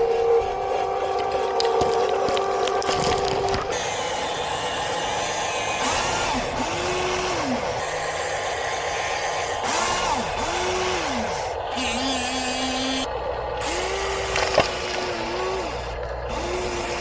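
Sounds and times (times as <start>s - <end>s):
small electric motor whirring: 0.0s - 17.0s.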